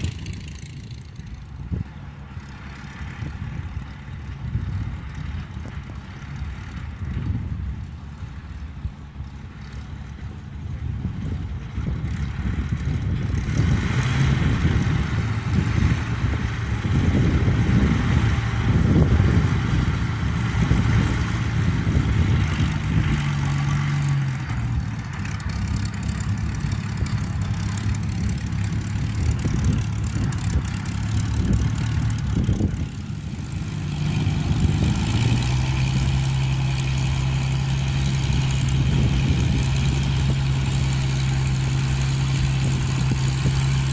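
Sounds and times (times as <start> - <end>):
piston aircraft engine running: 0.0 - 43.9.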